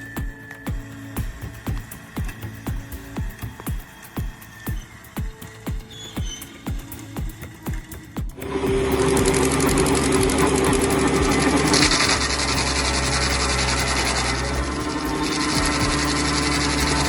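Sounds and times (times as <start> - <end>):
small engine rattling: 0.3 - 17.0.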